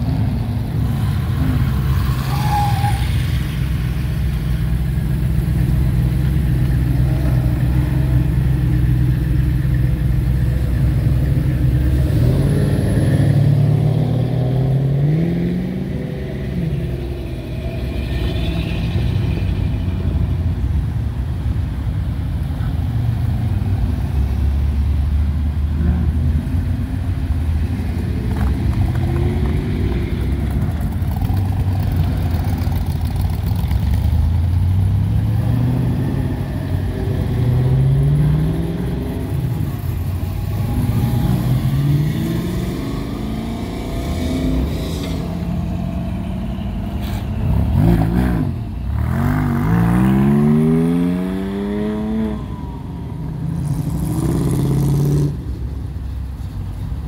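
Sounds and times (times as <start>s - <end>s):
cars driving past rumbling: 0.0s - 57.0s.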